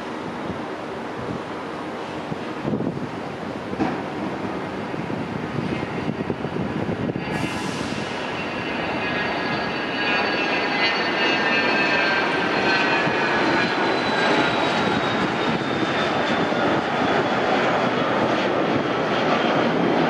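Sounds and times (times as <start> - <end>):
jet engine roar with whine: 0.0 - 20.0.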